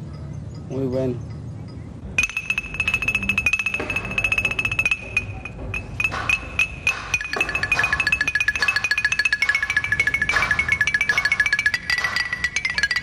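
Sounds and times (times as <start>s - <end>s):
metal chime notes struck rapidly: 2.2s - 13.0s.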